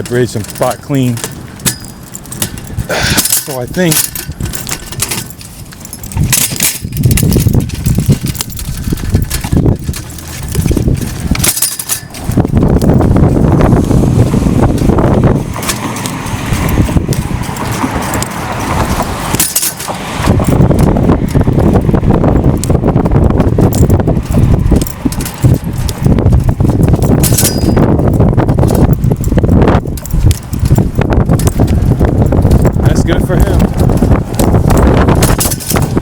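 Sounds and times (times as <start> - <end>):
clicks and rattles: 0.0 - 13.7, 14.6 - 36.0
wind and handling rumble on microphone: 0.0 - 36.0.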